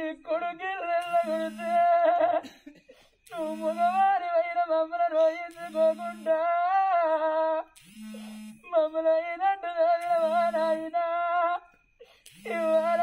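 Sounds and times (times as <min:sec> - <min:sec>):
person singing long notes: 0:00.8 - 0:02.4, 0:03.3 - 0:11.7, 0:12.3 - 0:13.0.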